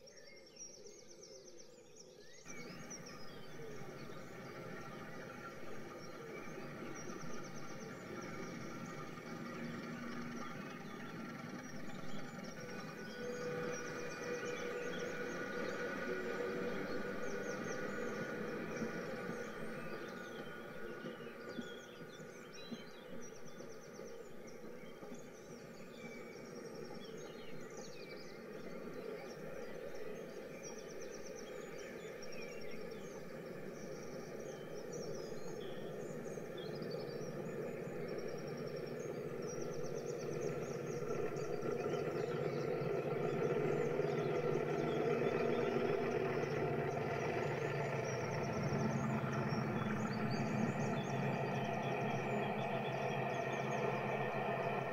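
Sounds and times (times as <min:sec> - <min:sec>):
birds chirping: 0:01.6 - 0:54.9
train running rumble: 0:02.5 - 0:54.9.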